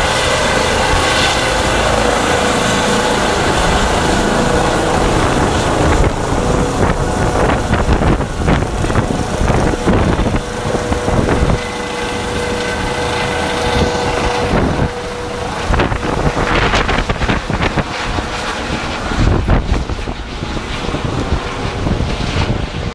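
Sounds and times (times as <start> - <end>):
helicopter turbines and rotor: 0.0 - 22.9
steady whine: 0.0 - 22.9
wind buffeting microphone: 0.0 - 22.9.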